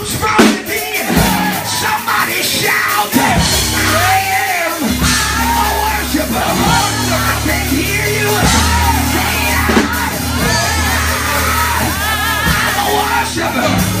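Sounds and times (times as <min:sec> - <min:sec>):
live band praise music: 0:00.0 - 0:14.0
people singing and shouting: 0:00.0 - 0:14.0.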